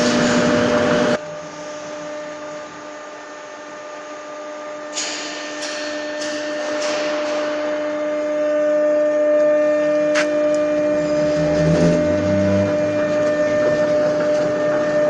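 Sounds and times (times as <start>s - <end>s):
lathe motor and gear whine: 0.0s - 15.0s.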